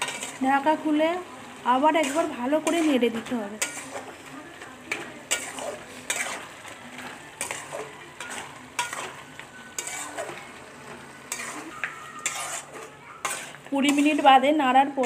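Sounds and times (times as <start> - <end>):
metal spatula scraping a pan: 0.0 - 0.8, 1.8 - 15.0
cabbage sizzling in a pan: 0.0 - 15.0.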